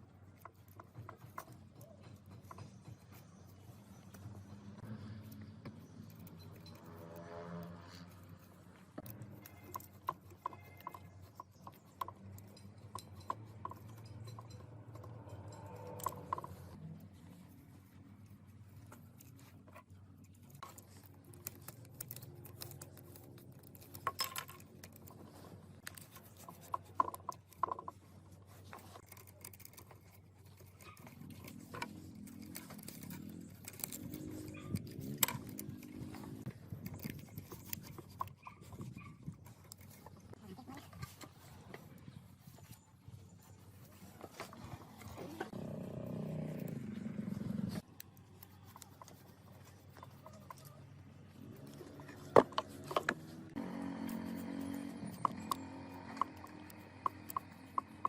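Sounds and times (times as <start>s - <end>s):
small metal tools clicking: 0.0s - 42.8s, 43.4s - 58.0s.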